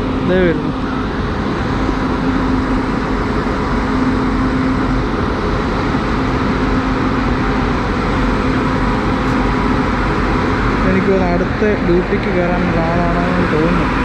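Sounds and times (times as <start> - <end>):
constant rumbling: 0.0 - 14.0
locomotive hum: 0.0 - 14.0.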